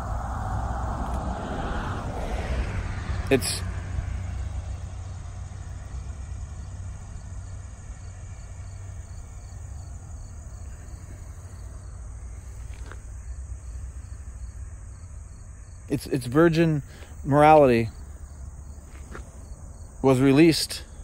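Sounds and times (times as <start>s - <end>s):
insects chirping: 0.0s - 21.0s
steady low rumble: 0.0s - 21.0s.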